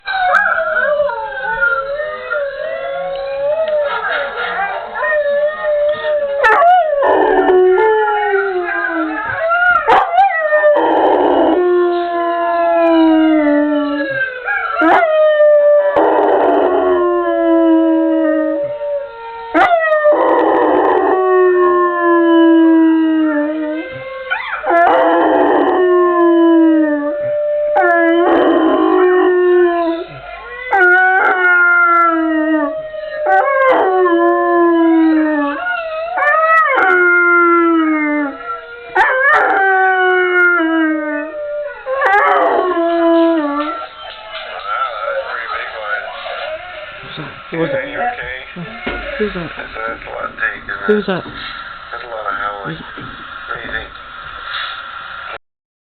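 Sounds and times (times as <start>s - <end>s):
dog howling: 0.0s - 49.4s.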